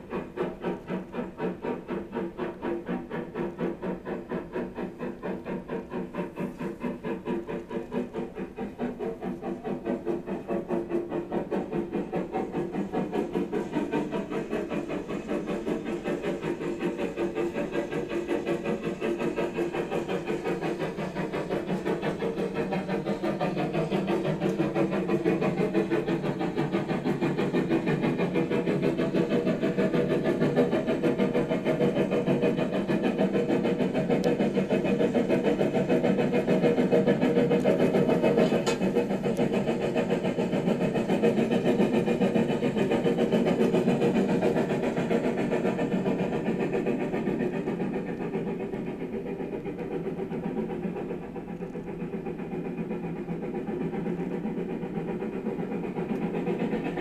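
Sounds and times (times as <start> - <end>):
mechanical engine running: 0.1 - 57.0.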